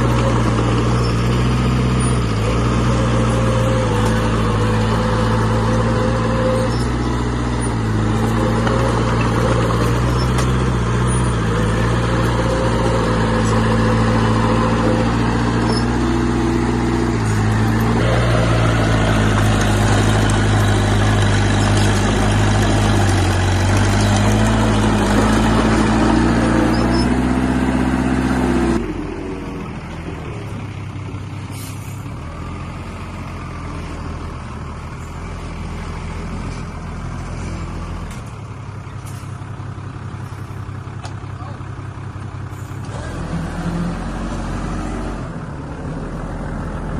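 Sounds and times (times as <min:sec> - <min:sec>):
heavy diesel engine revving: 0:00.0 - 0:46.9.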